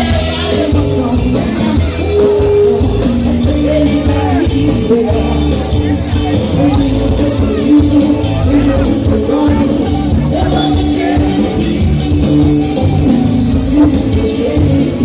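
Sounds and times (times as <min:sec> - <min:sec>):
loud carnival music with singing: 0:00.0 - 0:15.0.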